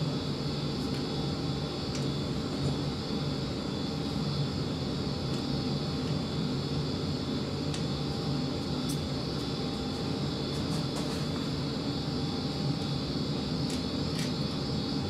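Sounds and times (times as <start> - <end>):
faint hum: 0.0 - 15.0
steady mechanical drone: 0.0 - 15.0.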